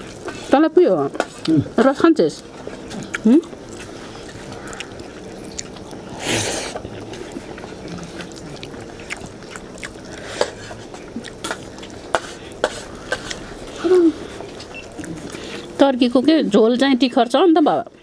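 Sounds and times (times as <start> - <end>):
people chewing: 0.0 - 18.0.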